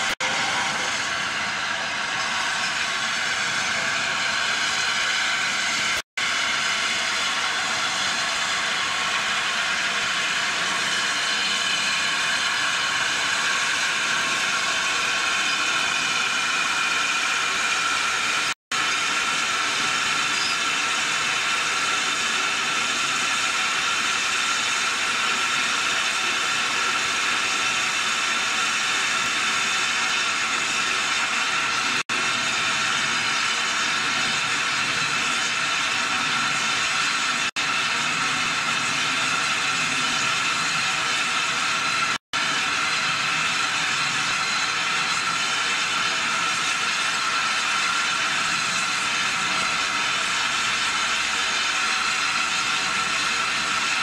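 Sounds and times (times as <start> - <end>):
loud hiss of steam: 0.0 - 54.0.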